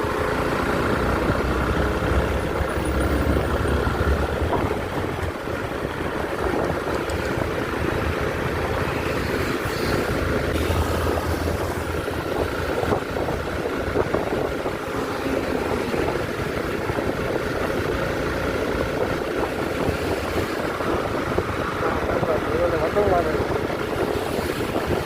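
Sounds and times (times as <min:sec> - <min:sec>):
motorcycle engine rumble: 0:00.0 - 0:25.0
wind rushing over microphone: 0:00.0 - 0:25.0.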